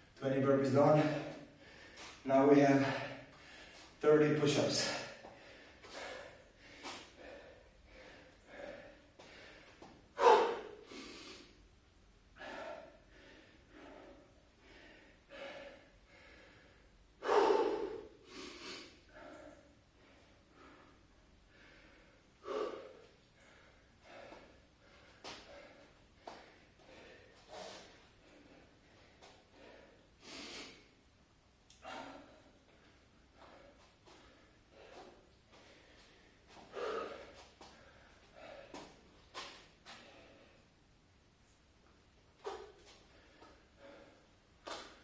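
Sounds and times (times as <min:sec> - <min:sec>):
man breathing hard: 0:00.8 - 0:11.7, 0:12.3 - 0:31.1, 0:31.7 - 0:40.9, 0:42.4 - 0:45.0
loud gasping breaths: 0:01.0 - 0:11.6, 0:12.4 - 0:31.0, 0:31.7 - 0:40.7.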